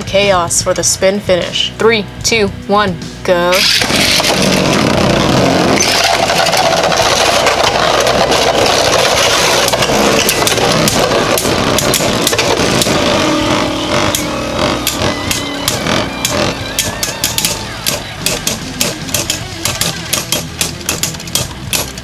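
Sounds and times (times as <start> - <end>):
spinning tops whirring: 3.6 - 22.0.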